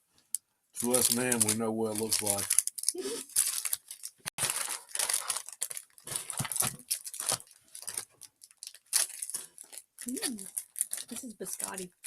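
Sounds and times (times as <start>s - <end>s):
plastic wrapper crinkling: 0.8s - 12.0s.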